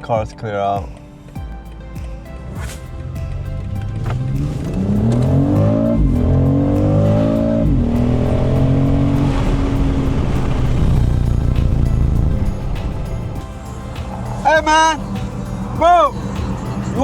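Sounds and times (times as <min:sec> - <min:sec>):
car engine accelerating hard: 0:03.2 - 0:17.0.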